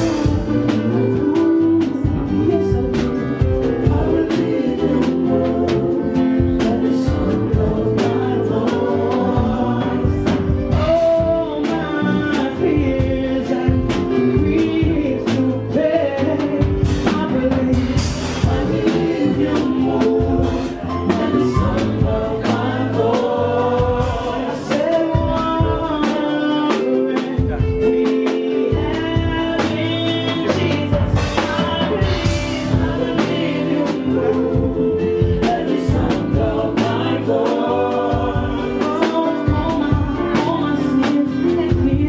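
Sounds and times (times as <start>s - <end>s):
band with steady beat: 0.0s - 42.0s
gospel voices singing: 0.0s - 42.0s.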